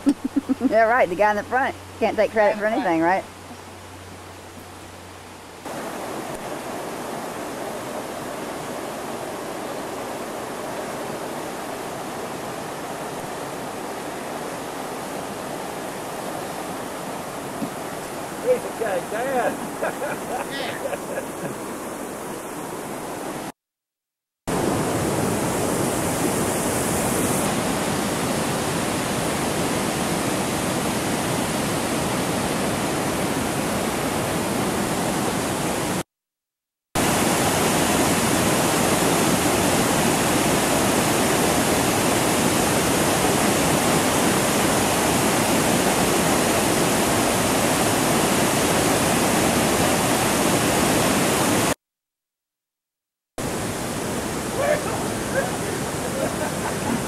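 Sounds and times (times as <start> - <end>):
waterfall rushing: 0.6 - 23.5, 24.5 - 36.0, 37.0 - 51.8, 53.4 - 57.0.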